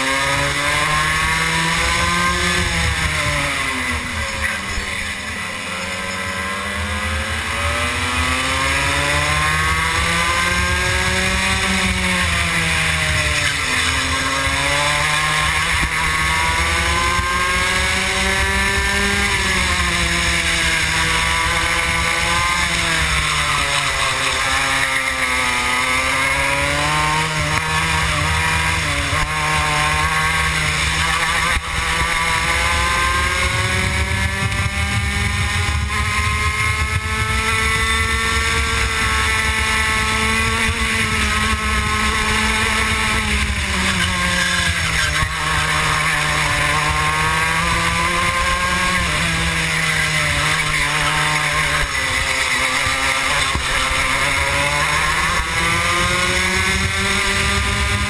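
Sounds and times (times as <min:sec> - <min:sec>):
kart engine racing: 0:00.0 - 0:58.0.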